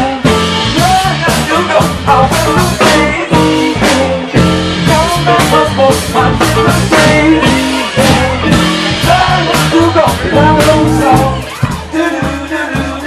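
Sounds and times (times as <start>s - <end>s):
electric guitar: 0.0s - 12.0s
live band playing upbeat song: 0.0s - 13.0s
steady drum beat: 0.0s - 13.0s.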